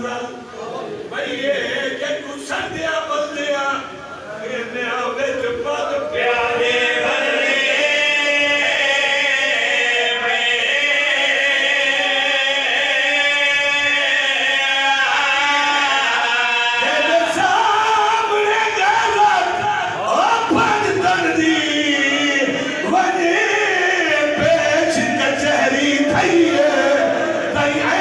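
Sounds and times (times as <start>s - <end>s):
man chanting into microphone: 0.0s - 28.0s.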